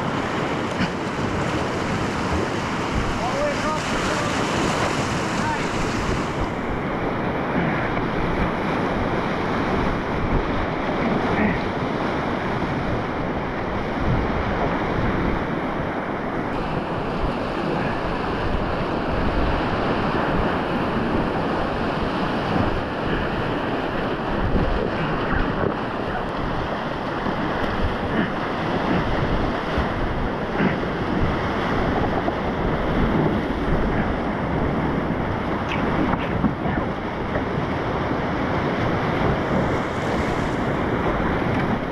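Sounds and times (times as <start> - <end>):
whitewater rapids rushing: 0.0 - 41.9.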